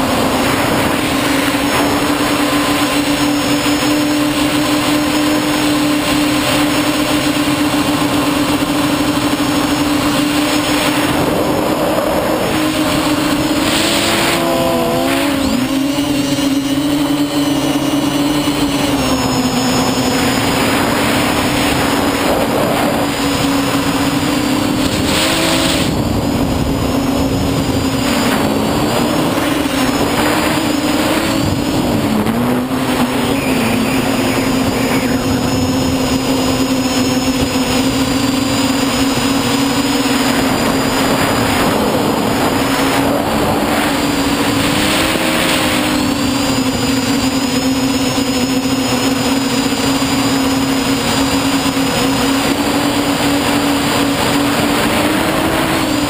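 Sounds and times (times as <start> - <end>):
rushing air: 0.0 - 47.2
faint high whine: 0.0 - 56.0
quadcopter motors buzzing: 0.0 - 56.0.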